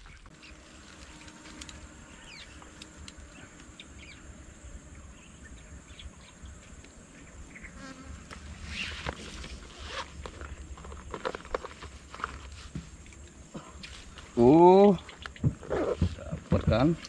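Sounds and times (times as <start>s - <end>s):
constant high whine: 0.0s - 17.0s
insects buzzing: 0.0s - 17.0s.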